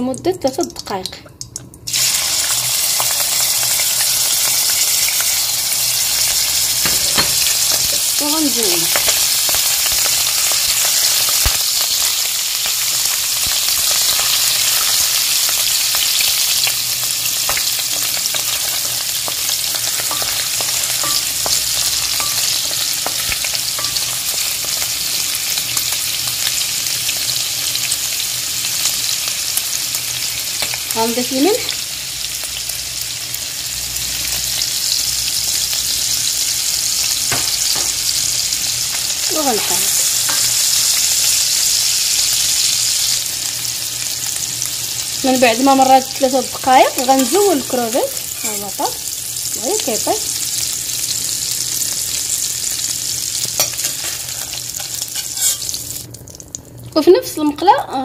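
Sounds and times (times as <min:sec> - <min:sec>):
shrimp sizzling in a pan: 0:01.9 - 0:57.7.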